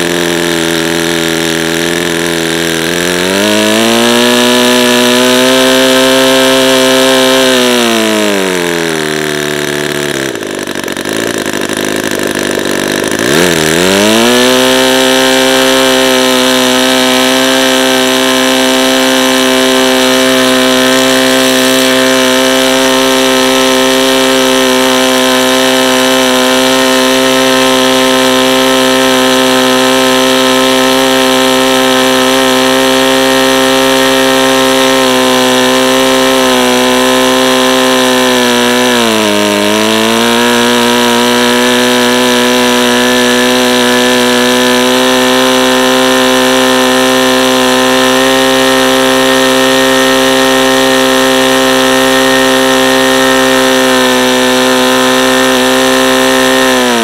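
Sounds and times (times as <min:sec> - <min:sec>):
model airplane engine at full throttle: 0:00.0 - 0:57.0.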